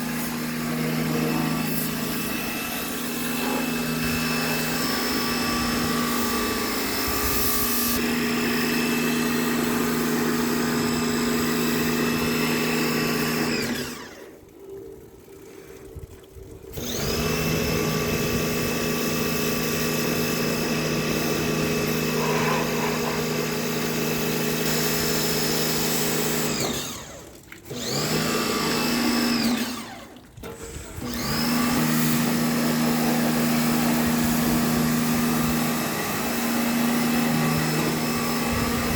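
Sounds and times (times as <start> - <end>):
pressure washer motor whining: 0.0 - 15.9, 16.6 - 38.9.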